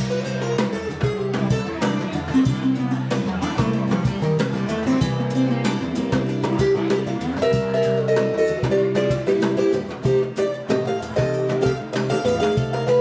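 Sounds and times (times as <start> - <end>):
acoustic guitar playing: 0.0 - 13.0
conga and cymbal percussion: 0.0 - 13.0.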